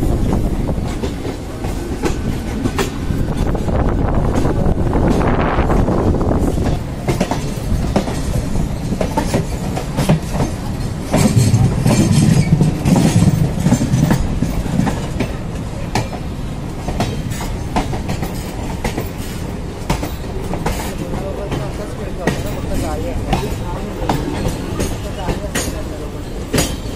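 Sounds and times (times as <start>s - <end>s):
train running gear rumble: 0.0s - 26.9s.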